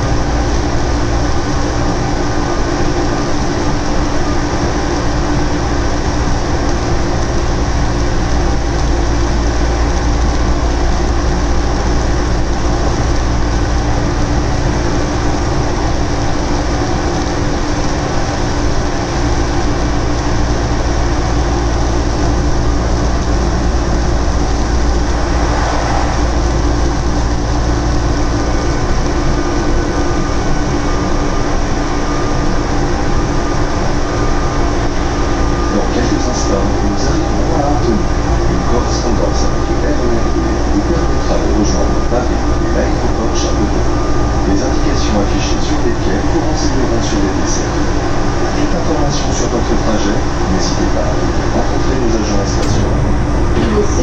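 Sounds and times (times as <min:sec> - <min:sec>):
constant hum: 0:00.0 - 0:54.0.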